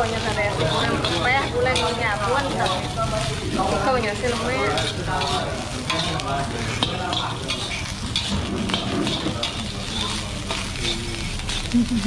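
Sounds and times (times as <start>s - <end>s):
metal spatula scraping a wok: 0.0s - 11.7s
background voices talking: 0.0s - 12.0s
rice sizzling in a wok: 0.0s - 12.0s.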